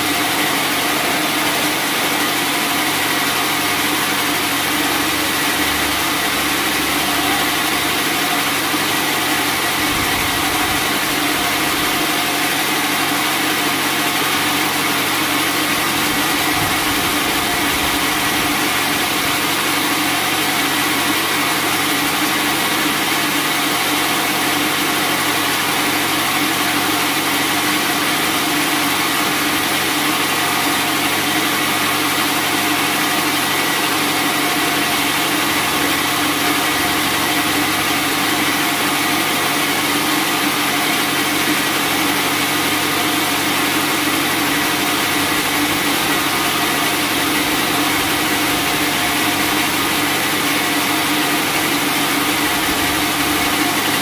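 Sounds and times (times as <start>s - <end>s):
bandsaw sawmill running: 0.0s - 54.0s.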